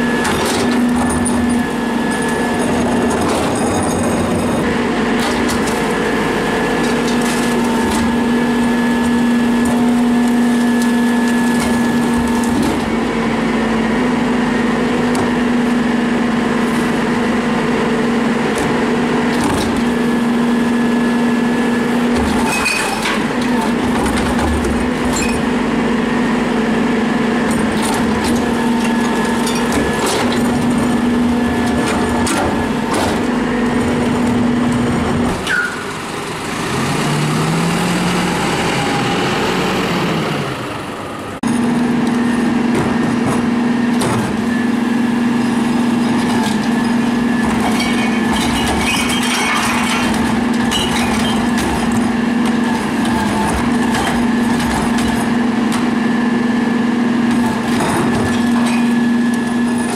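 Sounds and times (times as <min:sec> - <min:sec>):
garbage truck hydraulic hum: 0:00.0 - 0:59.9.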